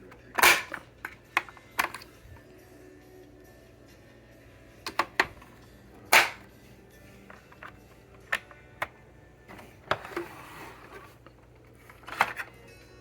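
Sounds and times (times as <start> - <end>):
faint music: 0.0 - 13.0.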